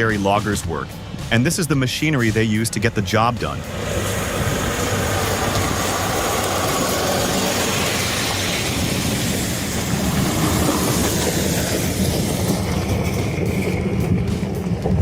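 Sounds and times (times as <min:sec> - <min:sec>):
diesel engine rumble and clatter: 0:00.0 - 0:15.0.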